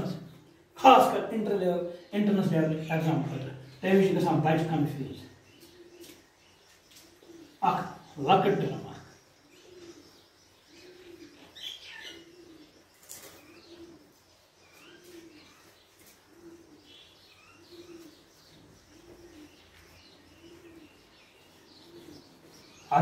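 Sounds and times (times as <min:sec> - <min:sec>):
bird cooing: 0:00.0 - 0:23.0.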